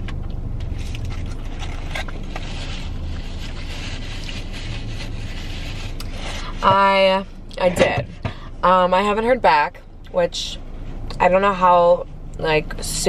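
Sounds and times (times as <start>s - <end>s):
car engine hum inside cabin: 0.0s - 13.0s.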